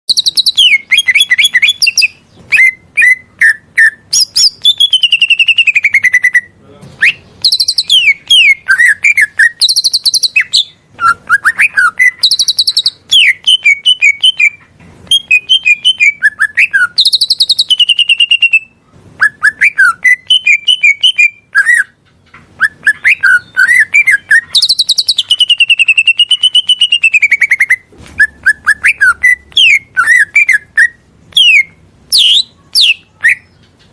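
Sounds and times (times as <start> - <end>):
songbird chirps and trills: 0.1 - 33.9.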